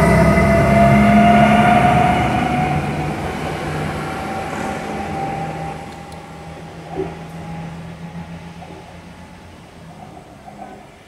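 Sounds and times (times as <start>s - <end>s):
train motor whine: 0.0s - 11.0s.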